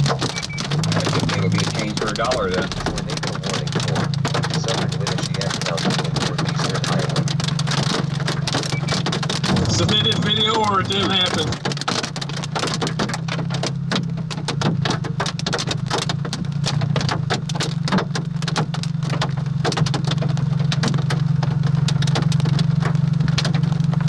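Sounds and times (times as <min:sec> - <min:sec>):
hail and rain pelting a vehicle: 0:00.0 - 0:24.0
low engine hum: 0:00.0 - 0:24.0.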